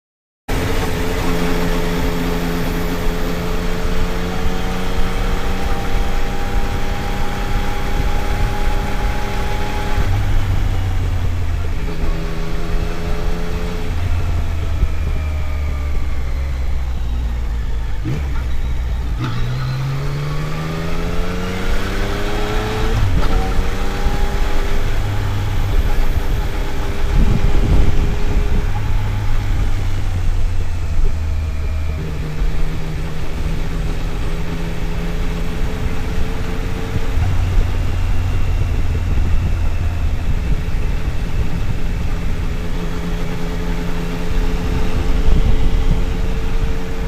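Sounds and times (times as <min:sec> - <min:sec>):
motorcycle engine shifting gears: 0:00.5 - 0:47.0.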